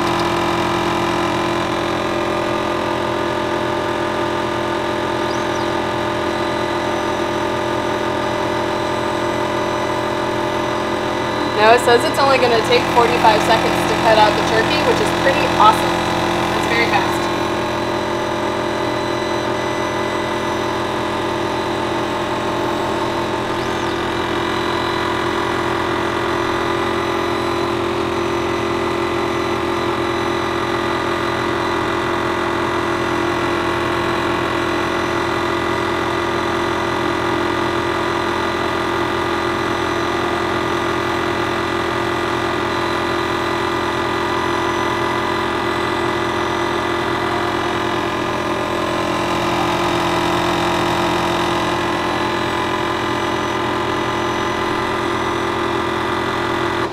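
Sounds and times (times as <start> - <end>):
laser cutter humming: 0.0 - 56.9.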